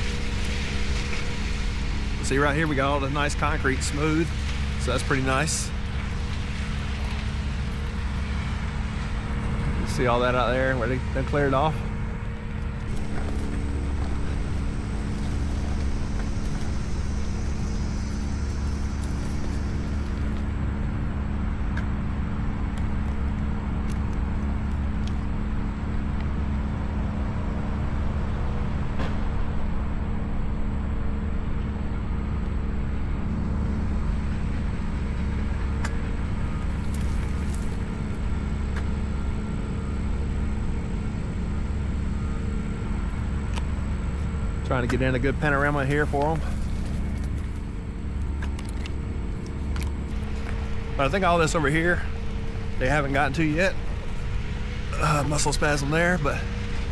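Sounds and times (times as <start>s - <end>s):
tractor engines droning: 0.0s - 56.9s.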